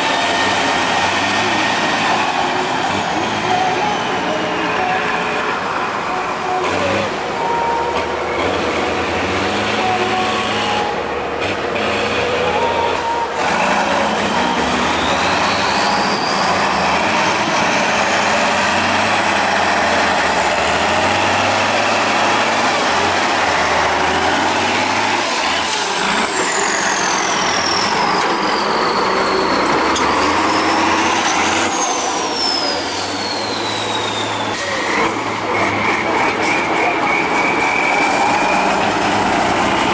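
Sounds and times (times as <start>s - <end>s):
truck diesel engine under load: 0.0s - 39.9s.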